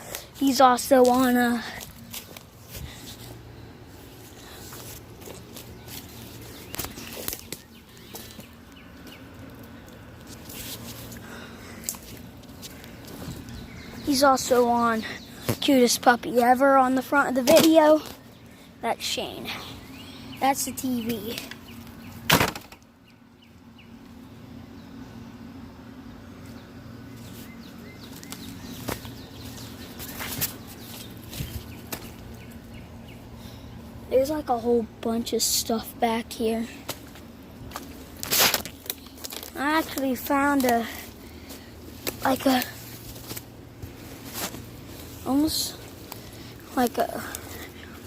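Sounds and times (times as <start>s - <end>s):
small birds chirping: 0.0s - 48.0s
steady low hum: 0.0s - 48.0s.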